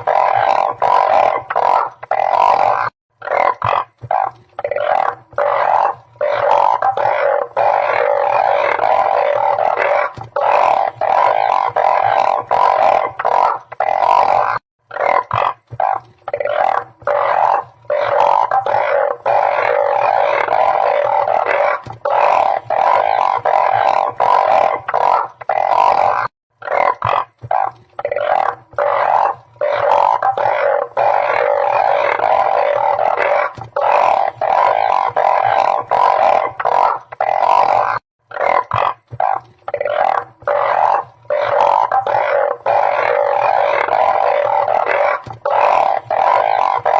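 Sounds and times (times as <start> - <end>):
chorus of frogs droning: 0.0 - 46.9.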